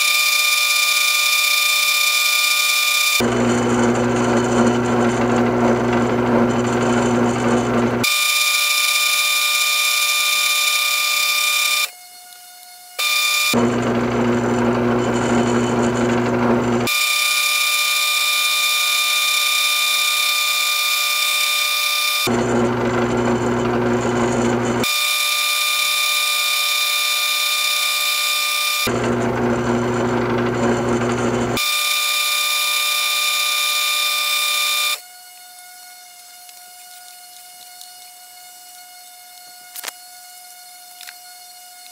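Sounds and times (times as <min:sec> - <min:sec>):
wood lathe whining: 0:00.0 - 0:41.9.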